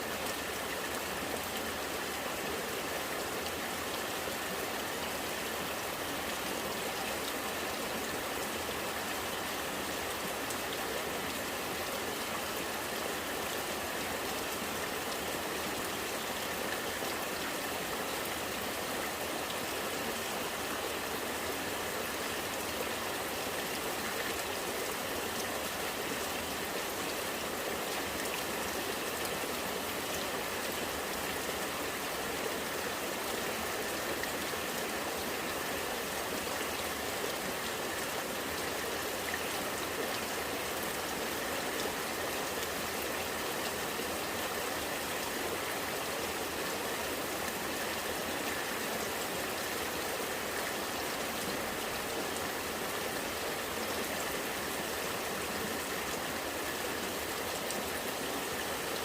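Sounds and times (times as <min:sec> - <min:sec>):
rain falling: 0:00.0 - 0:59.0
rainwater running and gurgling: 0:00.0 - 0:59.0.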